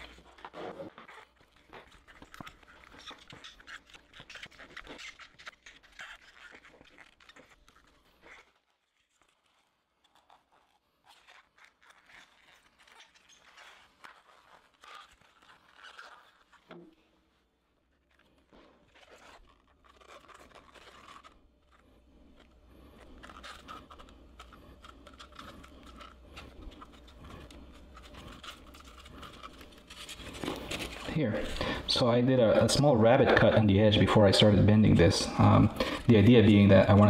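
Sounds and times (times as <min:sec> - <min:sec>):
foam board crackling and creaking: 0:00.0 - 0:37.0.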